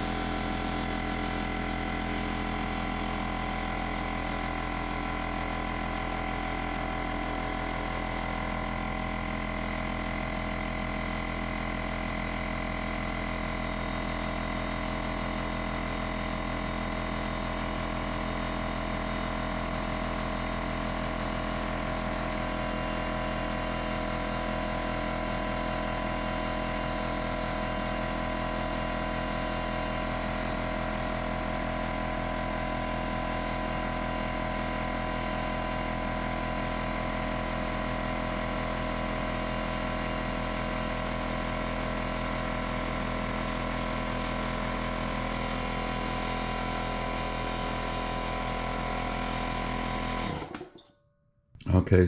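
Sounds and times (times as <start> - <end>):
air compressor running: 0.0 - 50.7.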